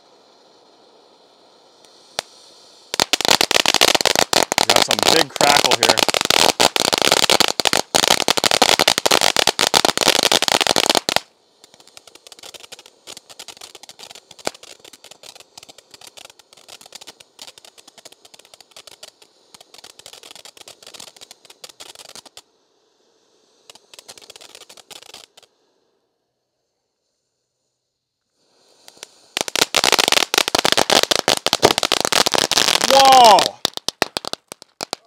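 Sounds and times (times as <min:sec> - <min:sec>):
firework fountain crackling: 0:00.0 - 0:26.0, 0:26.6 - 0:35.0.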